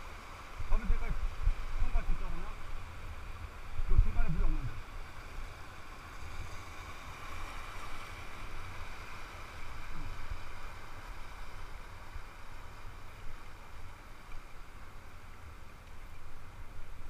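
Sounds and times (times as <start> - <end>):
river water rushing: 0.0 - 17.0
wind rumble on microphone: 0.0 - 17.0.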